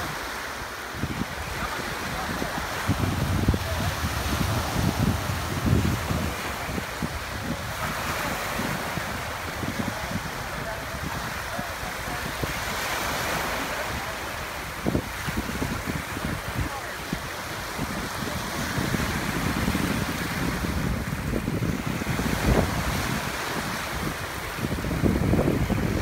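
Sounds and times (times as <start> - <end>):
small waves breaking: 0.0 - 26.0
wind buffeting microphone: 0.0 - 26.0.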